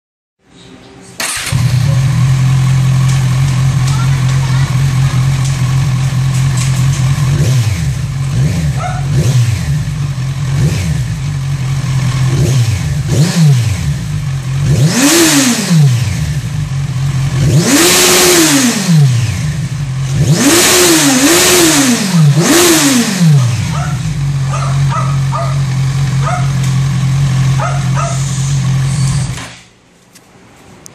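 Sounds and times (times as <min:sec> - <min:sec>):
motorcycle engine revving: 0:01.2 - 0:29.6.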